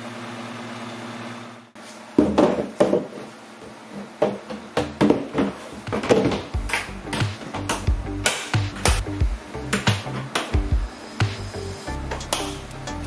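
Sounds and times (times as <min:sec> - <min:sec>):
steady hum: 0:01.4 - 0:13.0.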